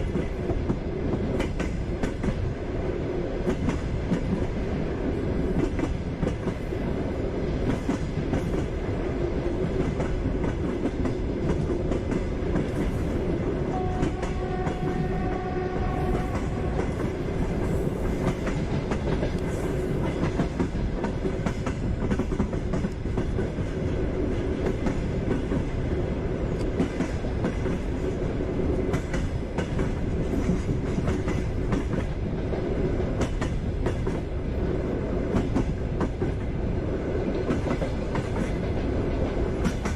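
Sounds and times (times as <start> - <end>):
train rumble: 0.0 - 39.9
train wheels clickety-clack: 0.0 - 39.9.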